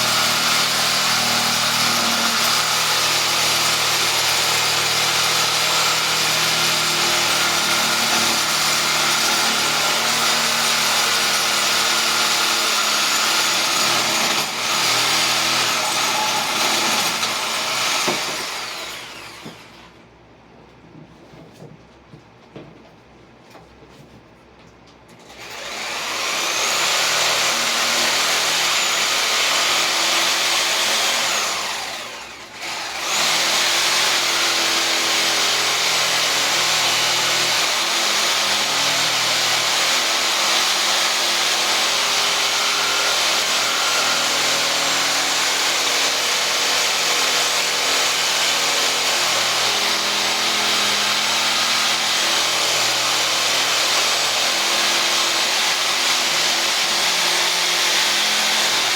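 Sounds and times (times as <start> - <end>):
reciprocating saw cutting wood: 0.0 - 19.7, 25.4 - 58.9.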